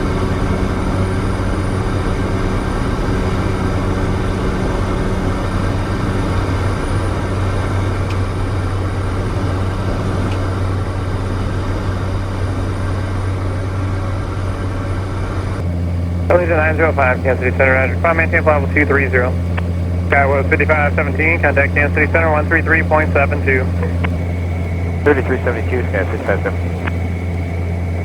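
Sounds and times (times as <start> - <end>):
turboprop engine drone: 0.0 - 28.0.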